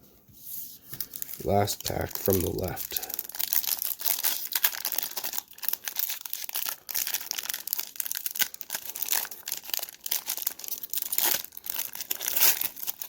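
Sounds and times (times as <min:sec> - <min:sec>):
card pack wrapper tearing and crinkling: 0:00.9 - 0:13.0.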